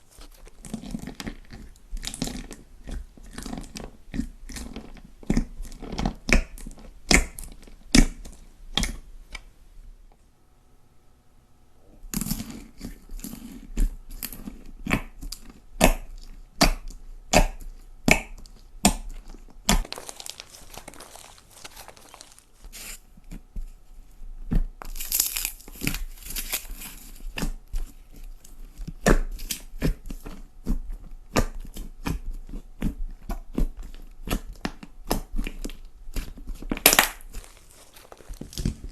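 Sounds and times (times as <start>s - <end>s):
slime crackling and popping: 0.1s - 9.0s, 12.1s - 23.4s, 24.5s - 38.9s.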